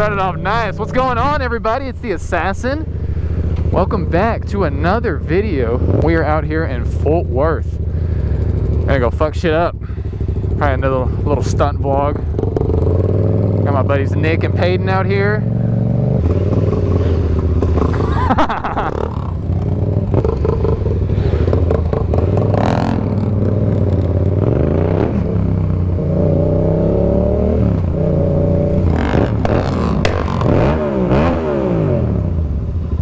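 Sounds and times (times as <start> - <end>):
motorcycle engine revving: 0.0 - 33.0
other motorcycles running: 0.0 - 33.0.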